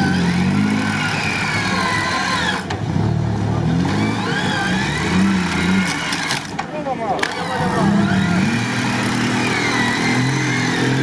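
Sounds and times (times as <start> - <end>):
off-road engines revving: 0.0 - 11.0.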